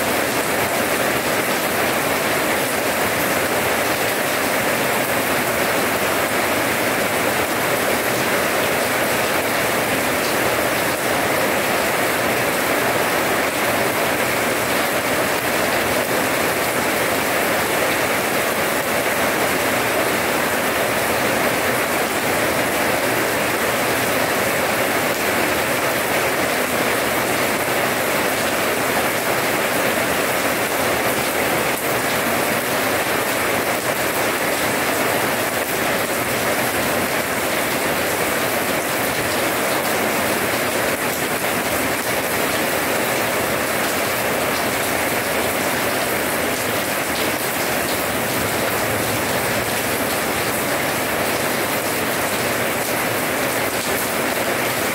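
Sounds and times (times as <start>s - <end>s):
rain on paving stones: 0.0s - 54.9s.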